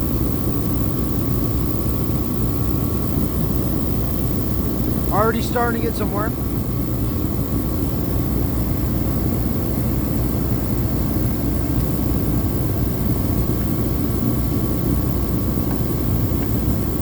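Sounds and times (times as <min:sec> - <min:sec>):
heater running: 0:00.0 - 0:17.0.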